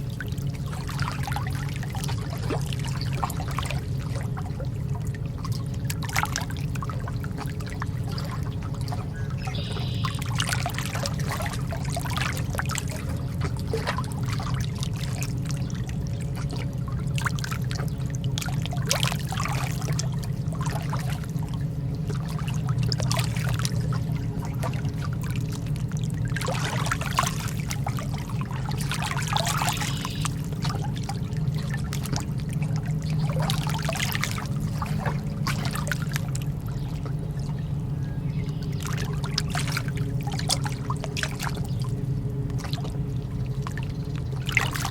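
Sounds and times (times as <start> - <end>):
lake water lapping: 0.0 - 44.9
steady low rumble: 0.0 - 44.9.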